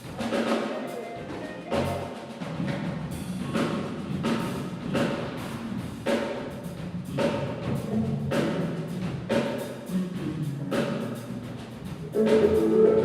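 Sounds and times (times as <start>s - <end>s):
drum kit played hard: 0.0s - 13.0s.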